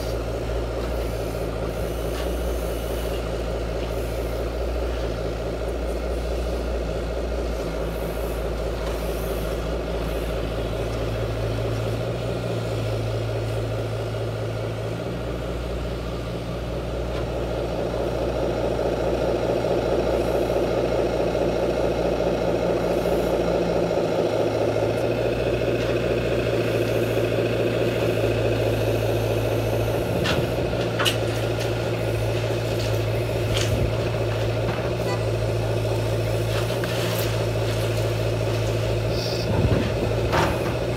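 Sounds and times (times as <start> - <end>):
excavator hydraulic machine hum: 0.0 - 40.9.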